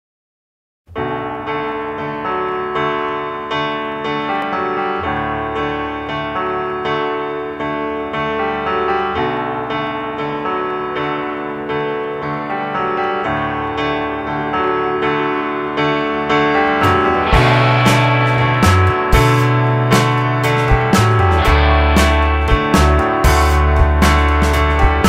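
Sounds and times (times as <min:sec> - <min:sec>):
keyboard music pulsing chords: 0:01.0 - 0:25.0.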